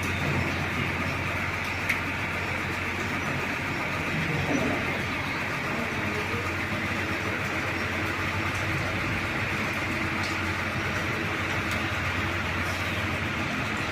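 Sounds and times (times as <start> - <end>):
vehicle engine drone: 0.0 - 13.9.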